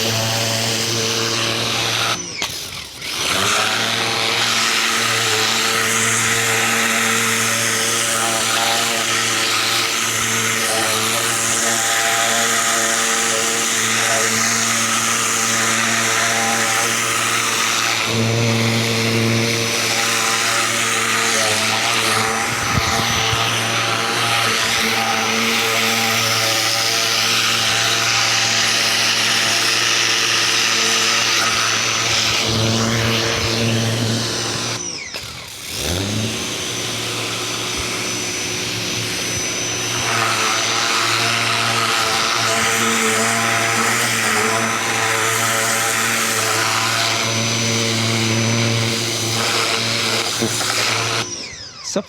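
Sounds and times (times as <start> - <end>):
pressure washer motor humming: 0.0 - 52.0.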